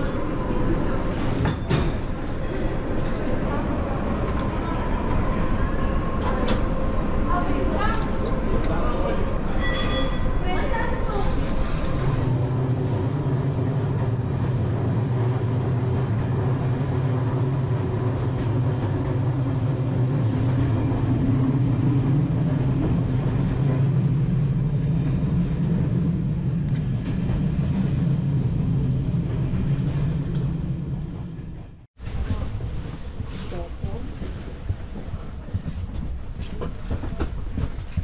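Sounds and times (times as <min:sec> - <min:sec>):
train interior hum and rumble: 0:00.0 - 0:38.0.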